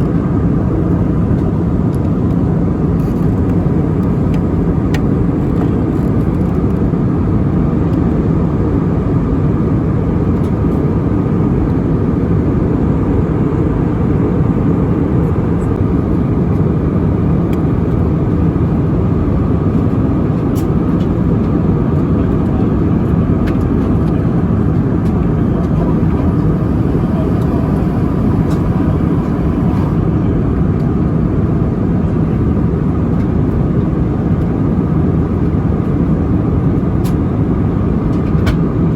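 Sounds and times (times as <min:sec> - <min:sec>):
jet engine and airflow rumble: 0:00.0 - 0:38.9.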